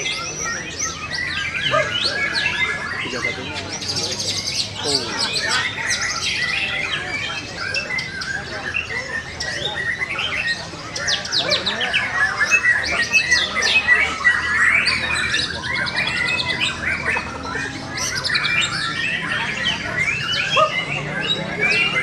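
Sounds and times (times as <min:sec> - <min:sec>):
birds singing whistles and trills: 0:00.0 - 0:22.0.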